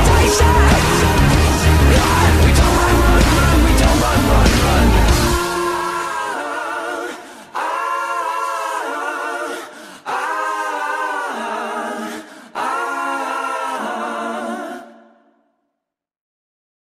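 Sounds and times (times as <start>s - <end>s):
singing in long held notes: 0.0s - 15.4s.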